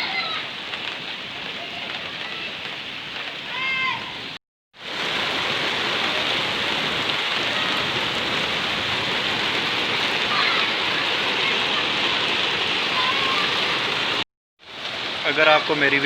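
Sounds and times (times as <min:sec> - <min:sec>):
rain splashing on hard surfaces: 0:00.0 - 0:16.0.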